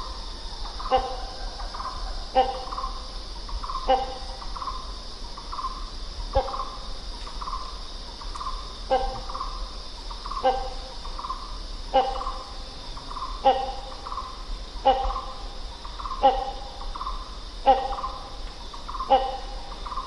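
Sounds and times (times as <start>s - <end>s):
high insect drone: 0.0s - 20.0s
hornbill barking calls: 0.0s - 20.0s
softer repeated bird notes: 0.0s - 20.0s.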